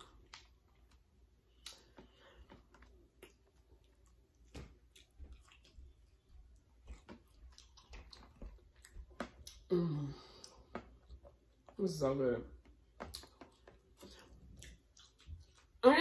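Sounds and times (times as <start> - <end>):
person chewing food: 0.0 - 11.8, 12.6 - 15.8.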